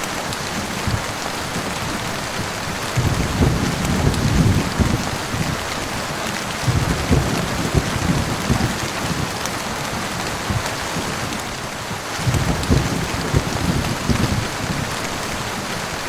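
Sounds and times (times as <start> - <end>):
heavy rain falling: 0.0 - 16.0
low thunder rumble: 0.5 - 16.0.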